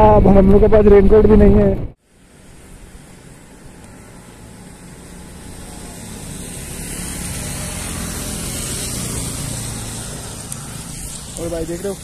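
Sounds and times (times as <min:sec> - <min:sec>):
tyres hissing on wet asphalt: 0:02.0 - 0:12.0
motorcycle engines passing: 0:02.1 - 0:12.0.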